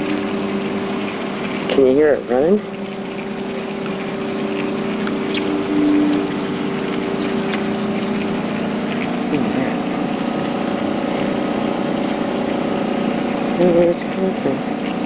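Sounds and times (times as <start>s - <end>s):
crickets chirping: 0.0s - 15.0s
motor hum: 0.0s - 15.0s.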